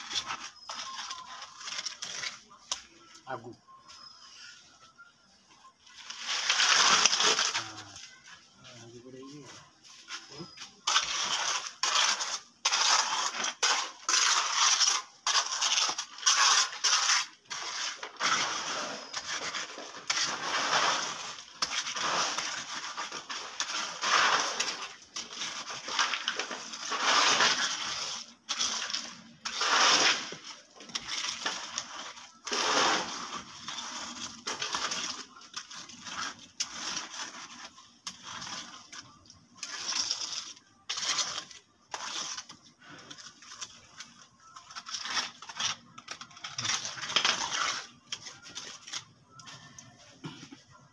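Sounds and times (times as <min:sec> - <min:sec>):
hand float scraping wet concrete: 0:00.0 - 0:02.8, 0:06.0 - 0:08.1, 0:08.7 - 0:49.8.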